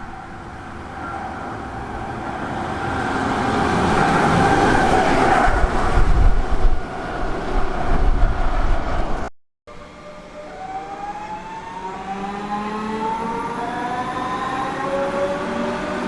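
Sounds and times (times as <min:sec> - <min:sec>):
train passing with heavy rumble: 0:00.0 - 0:16.0.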